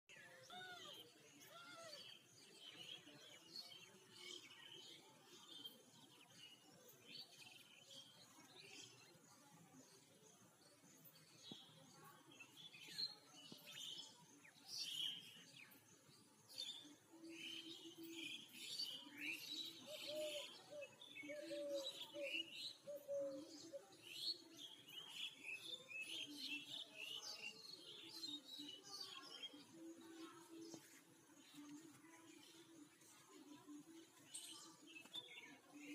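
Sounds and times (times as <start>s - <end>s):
birds chirping and twittering: 0.1s - 35.9s.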